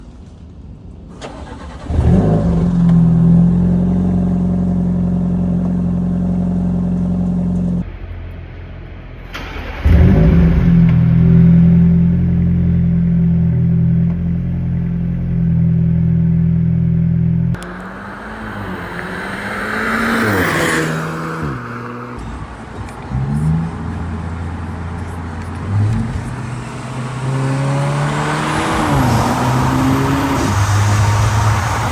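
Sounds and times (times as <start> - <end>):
car engine starting: 0.0 - 8.1, 9.0 - 31.9
car engine revving: 1.2 - 7.9, 9.2 - 31.9
car engine idling: 2.7 - 31.9.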